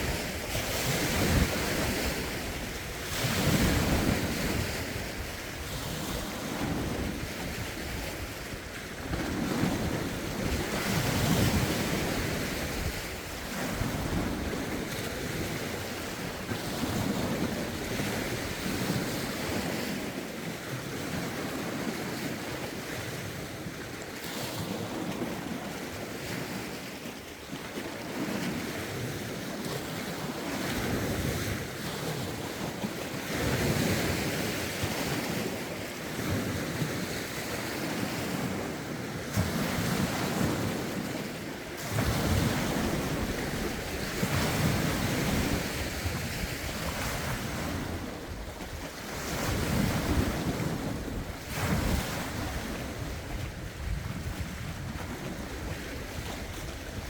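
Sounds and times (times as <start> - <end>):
wind rumbling on microphone: 0.0 - 23.8, 27.8 - 57.0
lake waves breaking ashore: 0.0 - 57.0.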